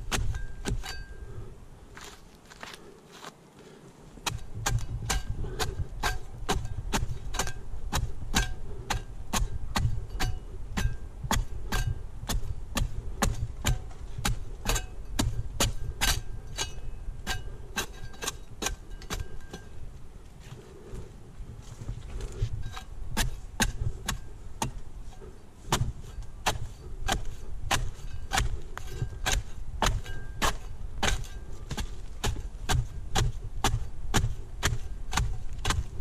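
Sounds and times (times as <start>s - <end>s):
low steady rumble: 4.2s - 36.0s.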